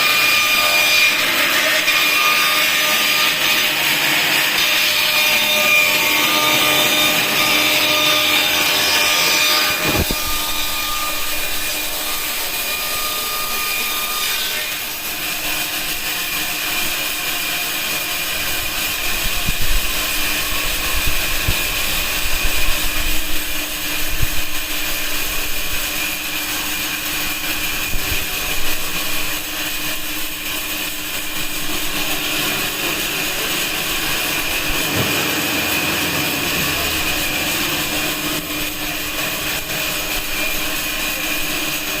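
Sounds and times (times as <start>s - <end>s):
band saw cutting plywood: 0.0s - 42.0s.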